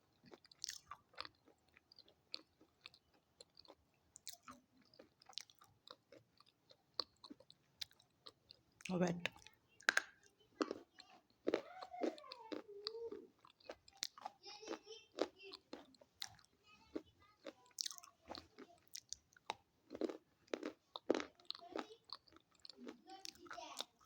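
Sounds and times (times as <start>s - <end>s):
chewing crunchy food: 0.0s - 24.0s.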